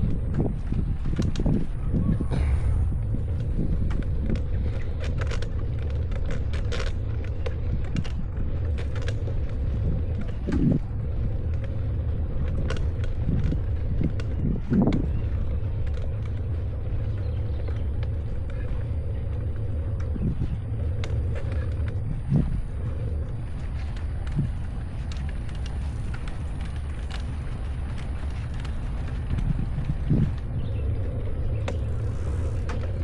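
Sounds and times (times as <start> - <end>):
bicycle road rumble: 0.0 - 33.0
bike clicks and rattles: 0.0 - 33.0
wind: 0.0 - 33.0.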